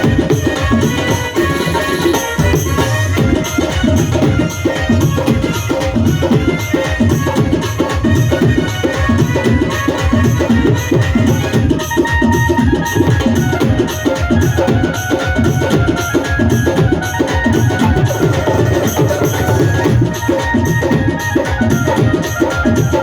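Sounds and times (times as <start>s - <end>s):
fast hand drumming: 0.0s - 23.0s.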